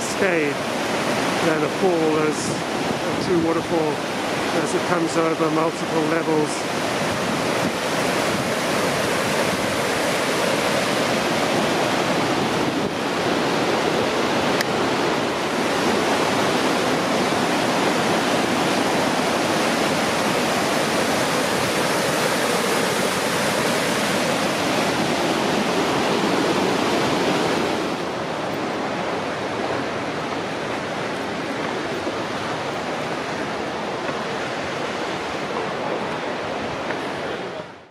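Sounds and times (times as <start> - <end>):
waterfall rushing: 0.0 - 37.8.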